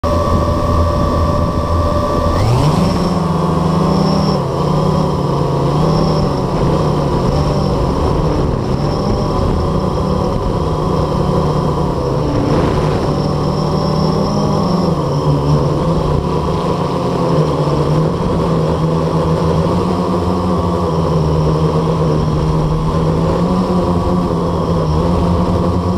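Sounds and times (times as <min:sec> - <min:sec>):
drone motors buzzing: 0:00.0 - 0:25.9.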